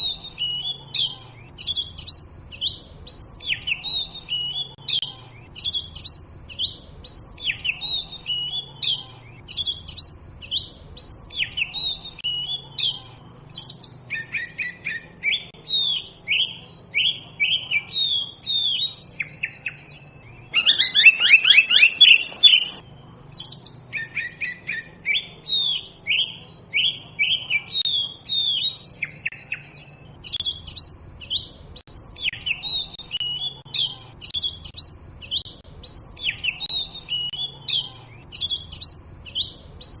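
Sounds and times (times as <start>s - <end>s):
bird singing whistled phrases: 0.0s - 40.0s.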